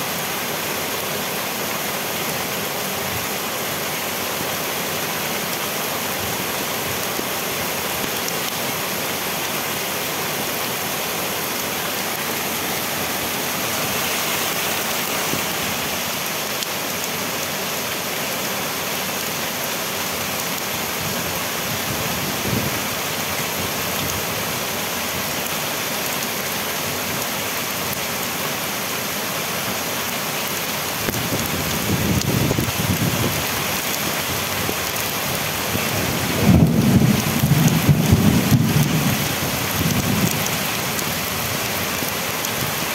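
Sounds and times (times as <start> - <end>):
heavy rain on foliage: 0.0 - 42.9.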